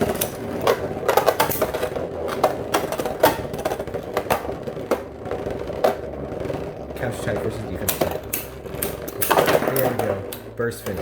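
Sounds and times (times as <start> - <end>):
spinning tops whirring: 0.0 - 11.0.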